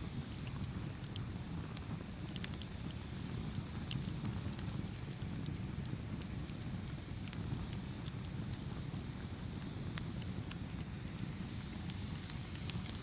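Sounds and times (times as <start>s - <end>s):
campfire rumble: 0.0s - 13.0s
fire crackles and pops: 0.0s - 13.0s.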